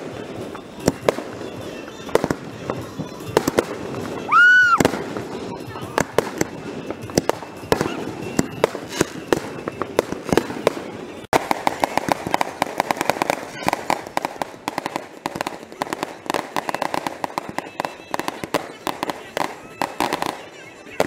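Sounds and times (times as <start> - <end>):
firework shells bursting: 0.0 - 21.0
rapid firework crackling: 0.0 - 21.0.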